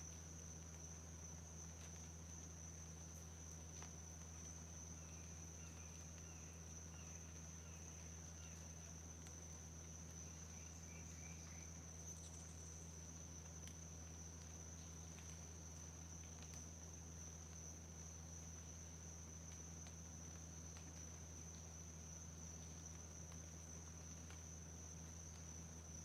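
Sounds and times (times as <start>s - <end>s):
high-pitched insect trill: 0.0s - 26.0s
low steady hum: 0.0s - 26.0s.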